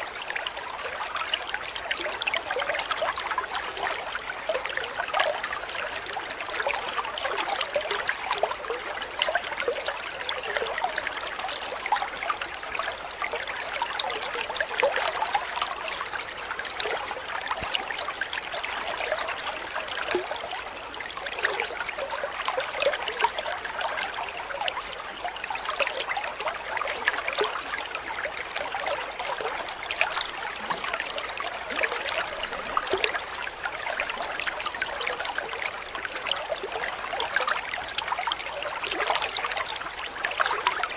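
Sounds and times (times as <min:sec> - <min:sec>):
trickling babbling water: 0:00.0 - 0:40.9.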